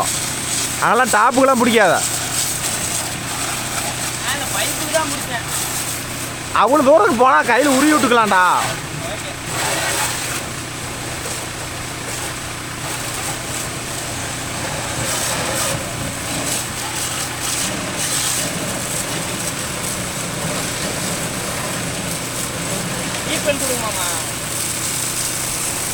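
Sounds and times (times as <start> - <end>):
tractor engine idling: 0.0 - 25.9
water jet spraying: 0.0 - 25.9.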